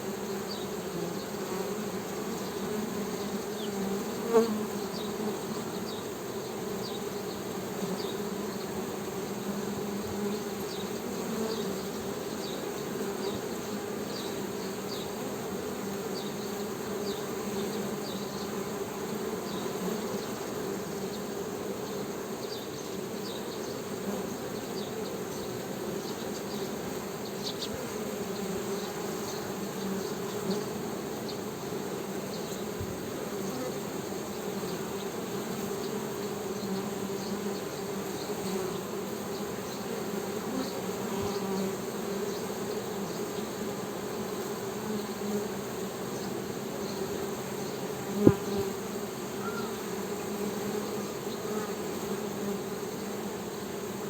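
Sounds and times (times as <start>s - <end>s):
honey bees humming: 0.0s - 54.0s.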